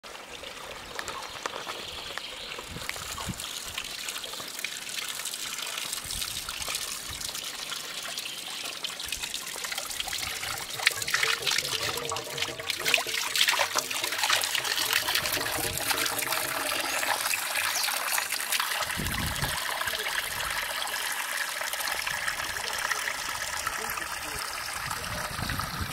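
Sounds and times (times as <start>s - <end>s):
water trickling from a fountain: 0.0s - 25.9s
water filling a plastic bottle: 0.1s - 25.9s.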